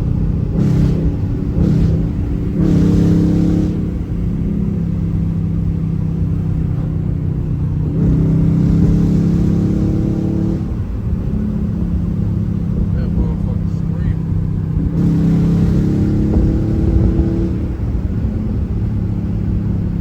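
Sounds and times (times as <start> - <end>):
car engine through loud exhaust: 0.0 - 20.0.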